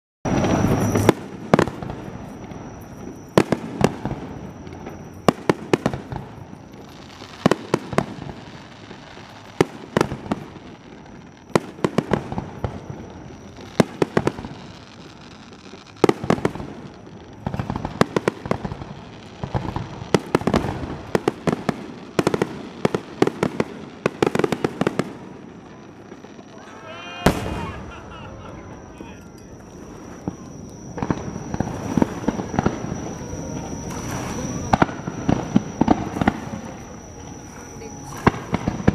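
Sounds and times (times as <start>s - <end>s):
crackling firework reports: 0.3s - 38.9s
fireworks bangs: 0.3s - 38.9s.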